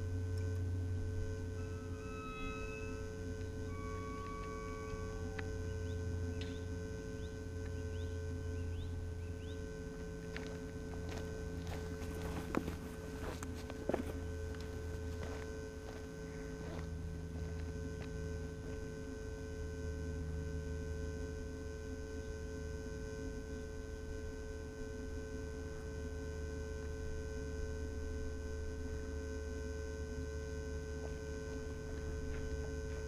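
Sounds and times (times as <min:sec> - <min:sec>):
electrical hum with fixed tones: 0:00.0 - 0:33.0.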